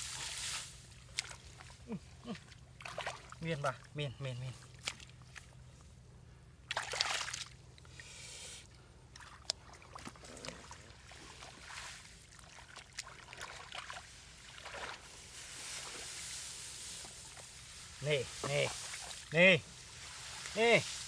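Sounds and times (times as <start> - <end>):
shallow water splashing: 0.0 - 5.4, 6.7 - 7.6, 9.1 - 21.0.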